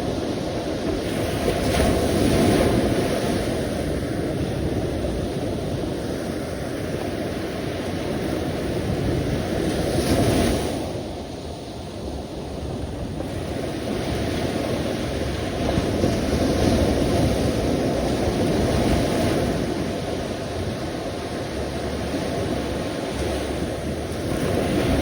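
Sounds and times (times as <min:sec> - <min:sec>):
sea waves washing onto shore: 0:00.0 - 0:25.0.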